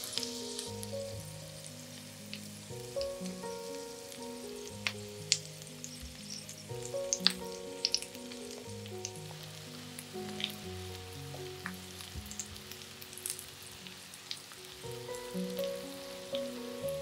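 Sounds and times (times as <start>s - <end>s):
background music with held notes: 0.0s - 17.0s
food sizzling in oil: 0.0s - 17.0s.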